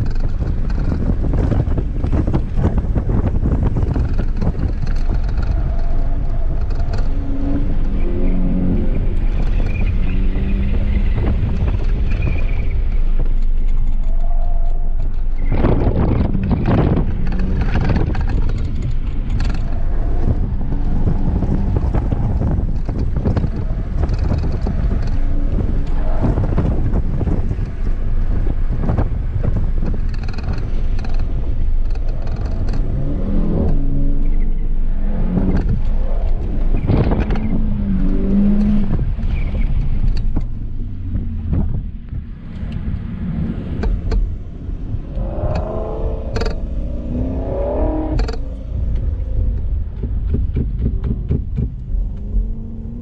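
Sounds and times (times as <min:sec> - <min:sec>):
car engine revving: 0:00.0 - 0:53.0
steady rush of noise: 0:00.0 - 0:53.0.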